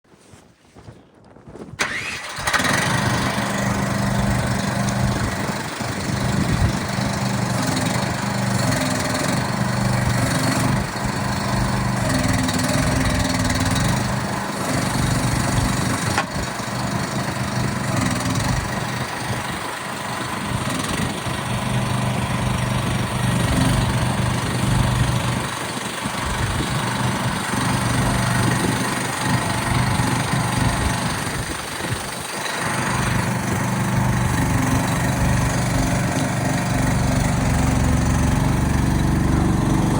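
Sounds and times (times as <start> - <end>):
excavator engine running: 1.8 - 39.9.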